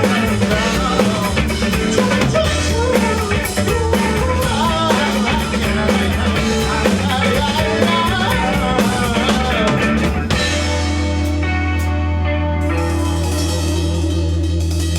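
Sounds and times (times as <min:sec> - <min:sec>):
rock band playing live: 0:00.0 - 0:14.9.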